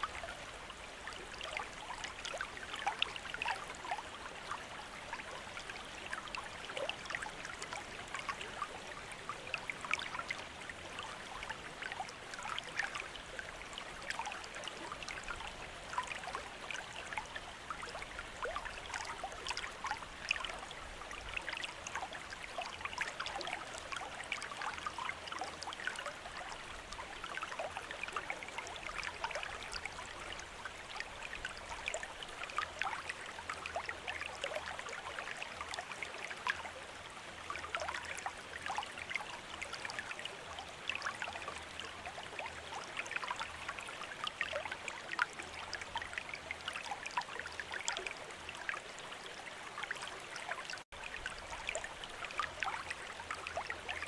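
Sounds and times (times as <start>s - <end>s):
fountain water trickling and splashing: 0.0s - 54.0s.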